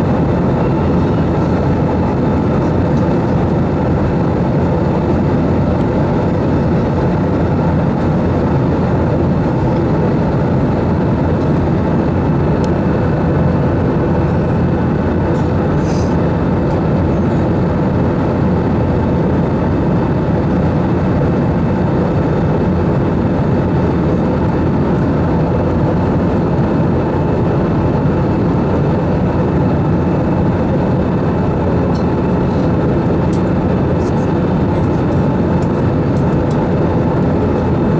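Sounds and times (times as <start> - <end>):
aircraft cabin engine noise: 0.0 - 37.9.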